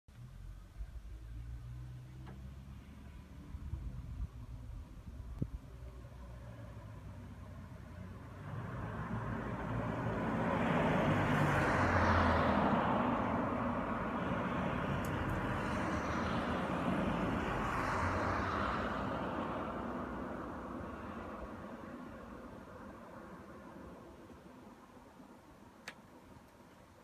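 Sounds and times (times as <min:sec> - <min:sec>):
road traffic passing: 0:00.2 - 0:27.0.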